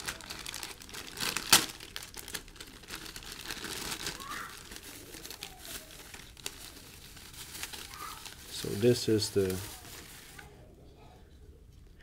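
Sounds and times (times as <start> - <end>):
packaging crinkling and rustling: 0.0 - 10.6.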